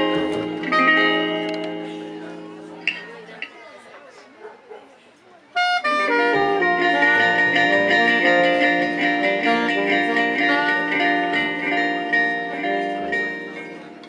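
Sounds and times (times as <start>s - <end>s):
gypsy jazz band playing: 0.0s - 3.4s, 5.6s - 14.0s
guitars strumming: 0.0s - 3.6s, 5.8s - 14.0s.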